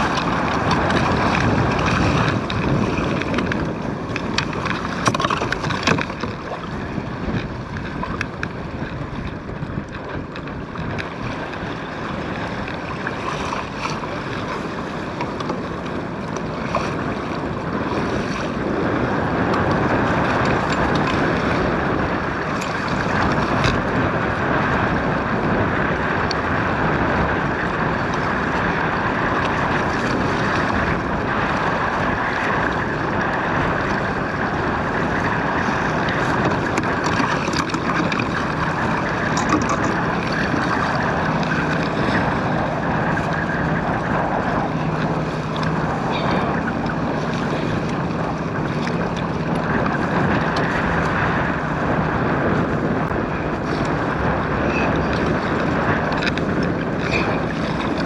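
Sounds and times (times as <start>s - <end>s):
water splashing against hull: 0.0s - 58.0s
wind buffeting microphone: 0.0s - 58.0s.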